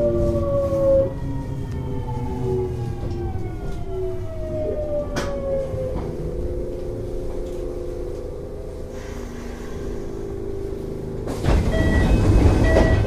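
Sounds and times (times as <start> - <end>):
train clatter with low hum: 0.0 - 13.0
train machinery hum: 0.0 - 13.0.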